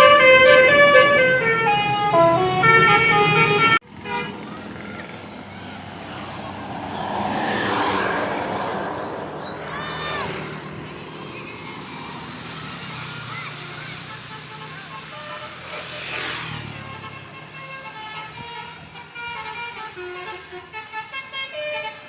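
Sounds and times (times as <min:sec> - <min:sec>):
bus horn playing a tune: 0:00.0 - 0:07.2, 0:10.8 - 0:22.0
road noise of passing vehicle: 0:00.0 - 0:22.0.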